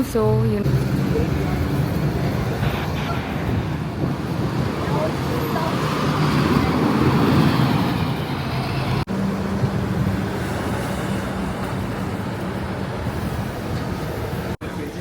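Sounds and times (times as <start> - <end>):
road traffic engine hum: 0.0 - 15.0.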